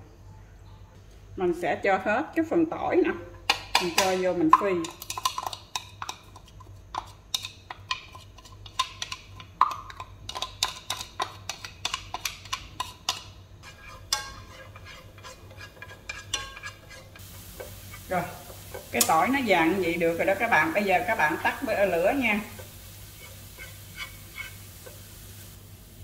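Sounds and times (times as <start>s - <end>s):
garlic sizzling in oil: 3.7s - 26.0s.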